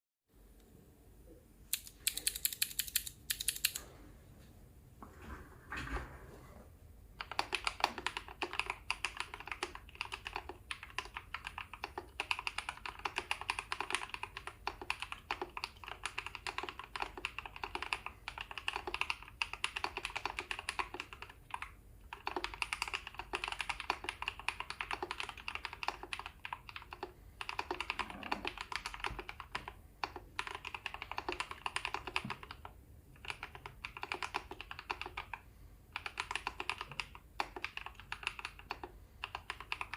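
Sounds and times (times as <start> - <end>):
mechanical keyboard typing: 1.7 - 3.8, 7.2 - 39.9.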